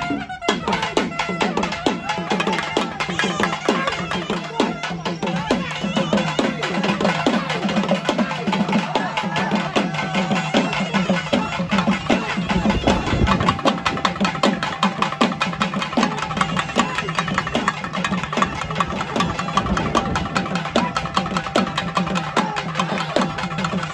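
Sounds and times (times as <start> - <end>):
rapid drum beats: 0.0 - 23.9.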